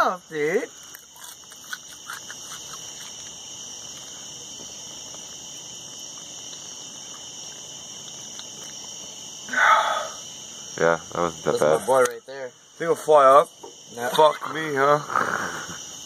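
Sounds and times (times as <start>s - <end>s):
insect chorus shrilling: 0.0s - 16.0s.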